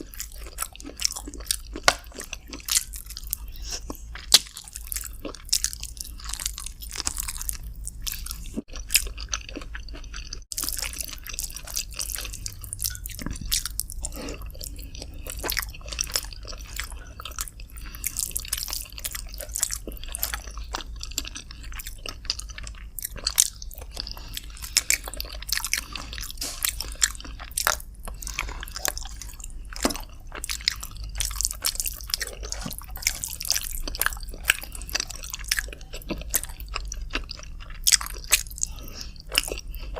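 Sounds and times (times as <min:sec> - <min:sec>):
chewing and biting: 0:00.0 - 0:39.9
low steady hum: 0:00.0 - 0:39.9.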